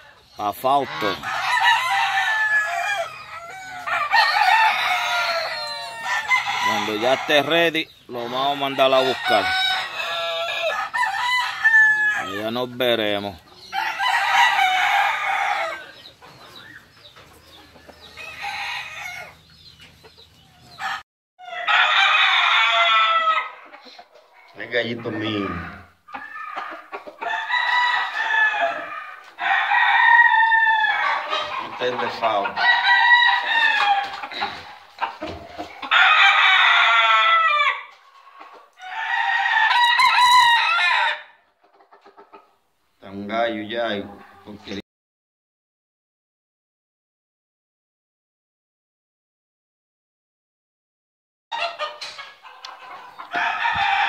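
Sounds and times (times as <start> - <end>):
roosters crowing: 0.0 - 42.4, 51.5 - 54.0.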